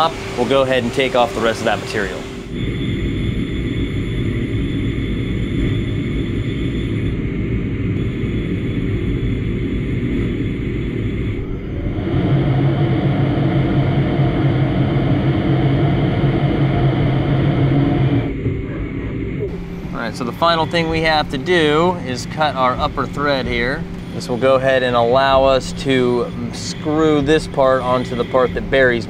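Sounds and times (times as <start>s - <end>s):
lathe machine whine: 0.0s - 29.0s
low hum: 0.0s - 29.0s.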